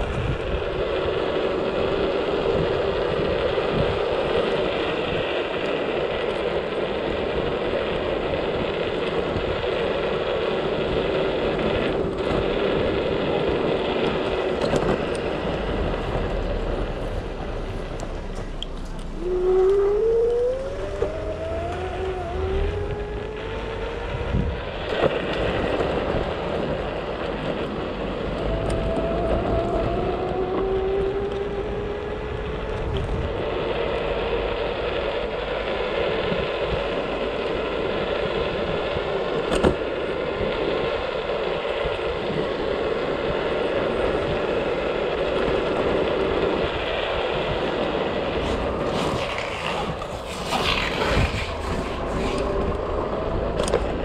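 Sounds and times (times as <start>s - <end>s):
road noise: 0.0s - 54.0s
scooter engine running: 0.0s - 54.0s.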